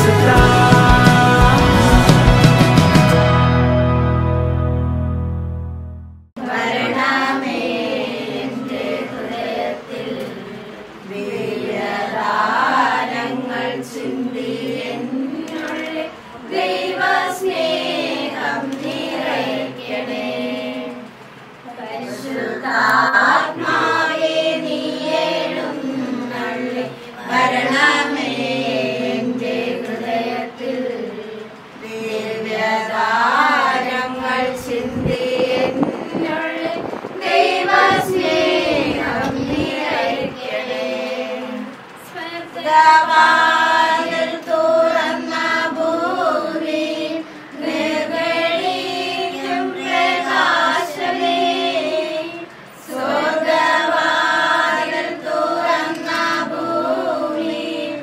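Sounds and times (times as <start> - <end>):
female choir singing: 0.0 - 3.0, 6.4 - 58.0.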